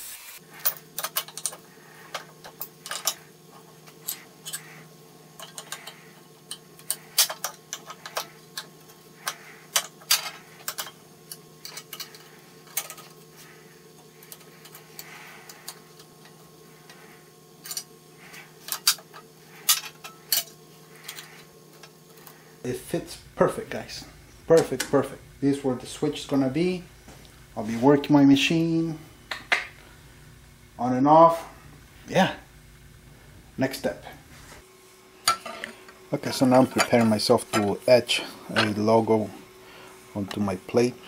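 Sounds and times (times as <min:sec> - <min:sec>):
faint steady hum: 0:00.2 - 0:41.0.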